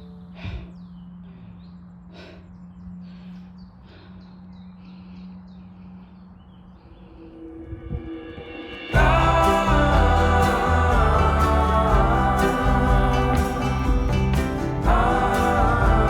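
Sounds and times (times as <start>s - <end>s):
songbirds chirping: 0.0s - 7.9s, 9.0s - 16.0s
low steady hum: 0.0s - 16.0s.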